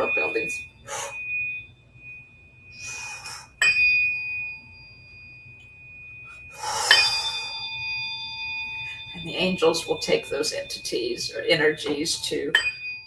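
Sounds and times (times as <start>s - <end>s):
tuning fork ringing: 0.0s - 13.0s.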